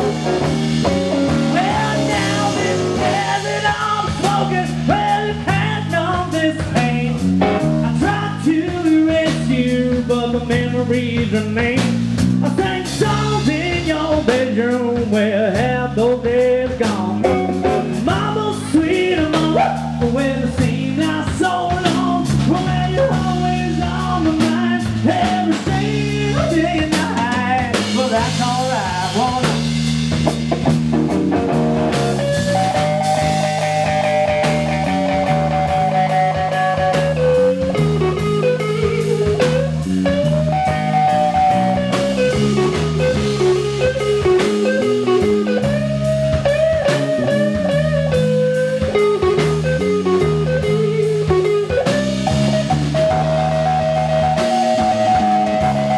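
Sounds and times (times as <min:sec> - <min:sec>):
drum kit: 0:00.0 - 0:55.9
electric bass: 0:00.0 - 0:55.9
electric guitar with string bends: 0:00.0 - 0:55.9.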